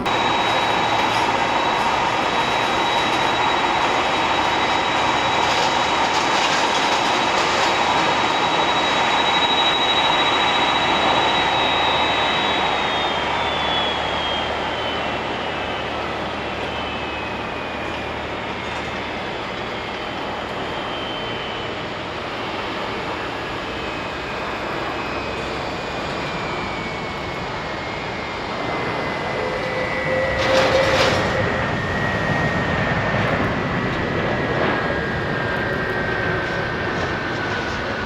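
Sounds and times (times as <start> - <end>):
broad rushing noise: 0.0 - 38.0
jet engines whining: 0.0 - 38.0.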